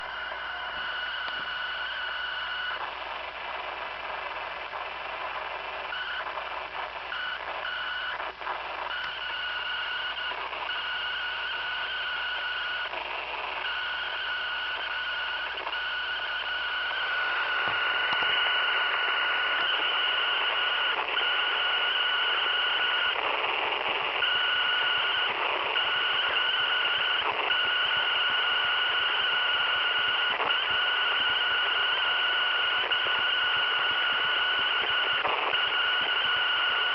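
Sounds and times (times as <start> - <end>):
radio static hiss: 0.0 - 36.9.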